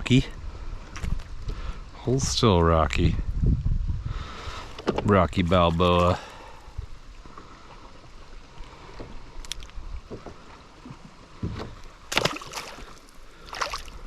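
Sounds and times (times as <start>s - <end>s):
water splashing around kayak: 0.1s - 2.0s, 4.1s - 14.0s.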